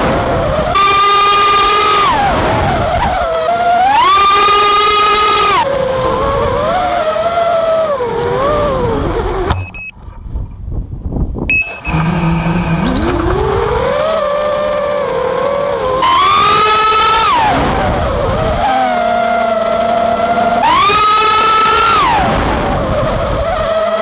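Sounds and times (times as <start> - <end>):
quadcopter motors whining: 0.0 - 10.0, 11.5 - 24.0.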